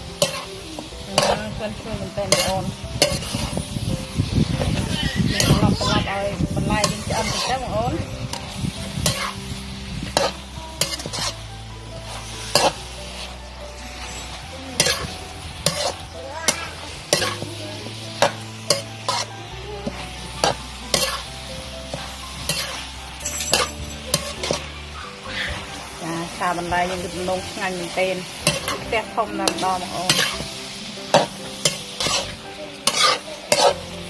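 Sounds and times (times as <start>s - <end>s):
food sizzling in a wok: 0.0s - 34.0s
metal spatula scraping a pan: 0.1s - 25.8s, 26.9s - 34.0s.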